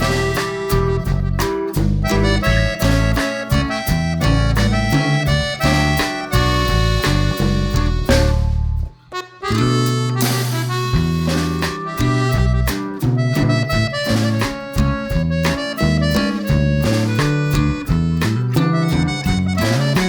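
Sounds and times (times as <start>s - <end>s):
instrumental music: 0.0s - 20.0s.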